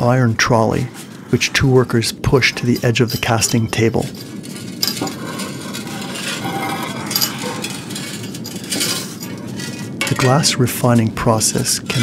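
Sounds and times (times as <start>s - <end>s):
steady noisy background: 0.0s - 12.0s
metal trolley rattling: 1.5s - 12.0s.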